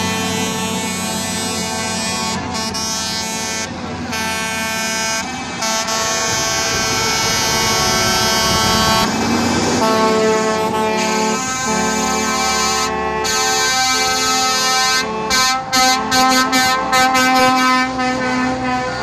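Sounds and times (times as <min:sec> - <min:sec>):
truck air horn blasts: 0:00.0 - 0:09.2, 0:09.8 - 0:19.0
truck engines passing: 0:00.0 - 0:19.0.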